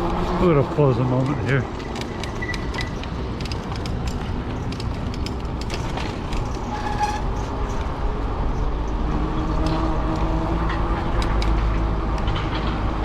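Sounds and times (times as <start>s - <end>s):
humming engine: 0.0s - 13.0s
vehicle rumble: 0.0s - 13.0s.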